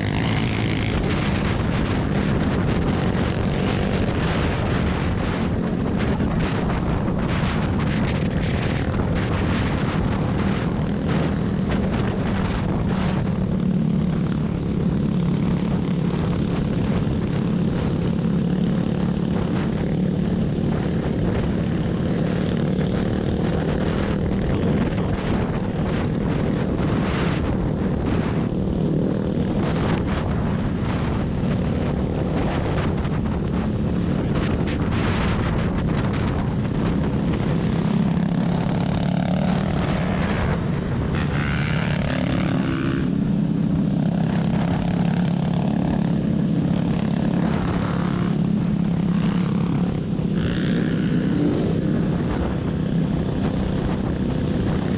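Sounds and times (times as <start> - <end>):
off-road vehicle engine running: 0.0 - 54.9.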